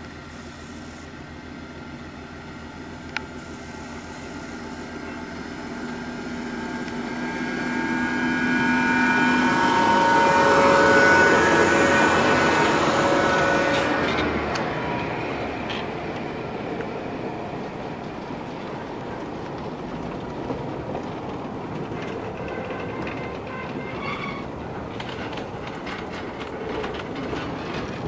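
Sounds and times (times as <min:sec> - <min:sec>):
diesel railcar engine passing: 0:00.0 - 0:28.0
carriages rolling and clattering: 0:02.7 - 0:28.0.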